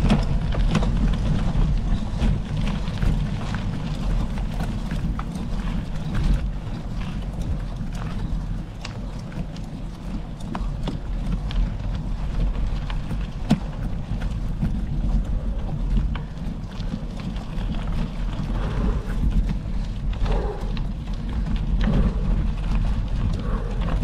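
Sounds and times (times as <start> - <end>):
bike rattling: 0.0 - 24.0
tyres on loose gravel: 0.0 - 24.0
wind rumble on microphone: 0.0 - 24.0.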